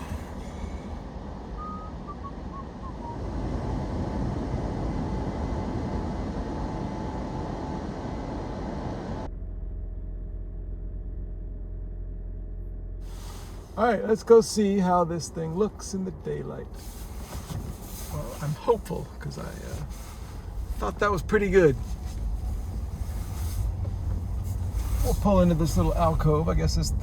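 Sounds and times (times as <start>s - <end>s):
car wash rushing noise: 0.0s - 9.3s, 13.1s - 27.0s
low steady hum: 0.0s - 27.0s.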